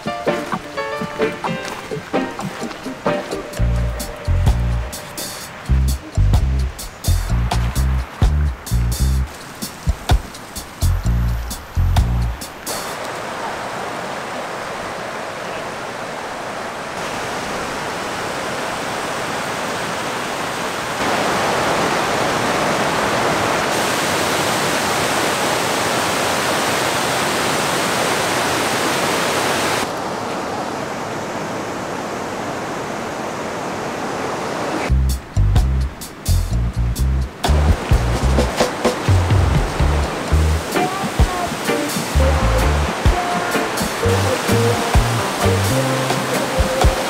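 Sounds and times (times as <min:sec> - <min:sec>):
waterfall rushing: 0:00.0 - 0:36.5, 0:37.2 - 0:47.0.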